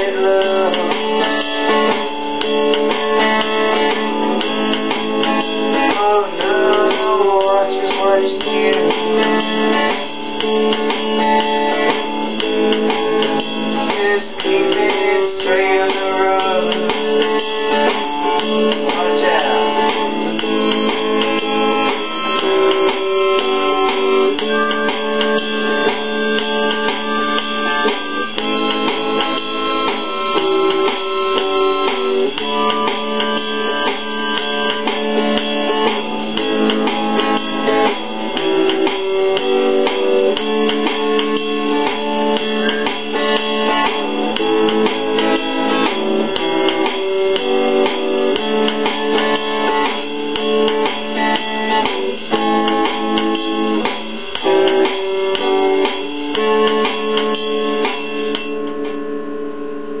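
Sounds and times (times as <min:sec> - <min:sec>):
acoustic guitar strumming: 0:00.0 - 1:00.0.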